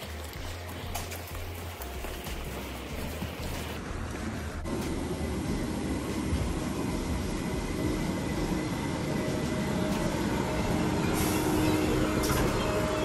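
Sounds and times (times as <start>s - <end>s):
electric train running and whining: 0.0s - 13.0s.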